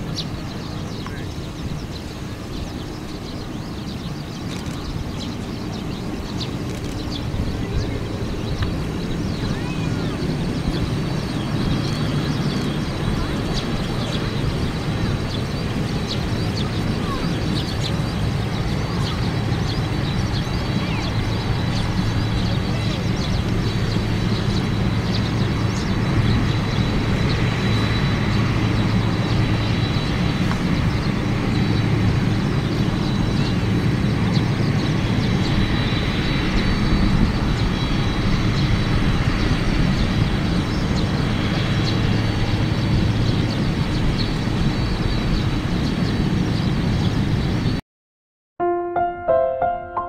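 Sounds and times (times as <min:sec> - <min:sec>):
faint high engine whine: 0:00.0 - 0:47.2
jet engines rumbling: 0:00.0 - 0:47.8.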